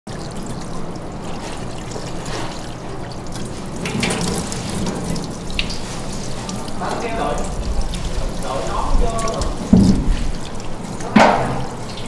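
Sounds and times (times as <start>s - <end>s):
water running from spray head: 0.1s - 12.0s
water splashing in steel sink: 0.1s - 12.0s.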